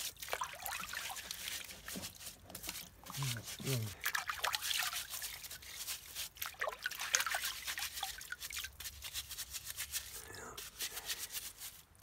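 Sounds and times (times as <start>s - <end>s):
water splashing and dripping: 0.0s - 11.4s
scrub brush scrubbing root: 0.0s - 12.0s.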